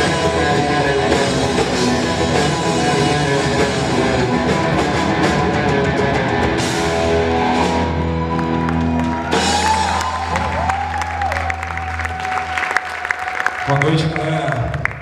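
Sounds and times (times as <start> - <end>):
live rock band playing: 0.0 - 13.4.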